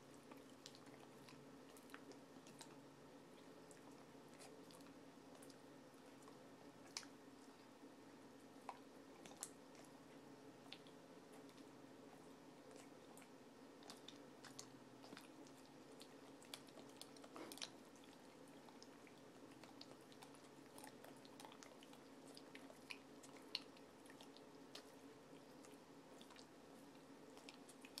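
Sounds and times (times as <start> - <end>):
dog licking and smacking: 0.1 - 7.8, 8.4 - 28.0.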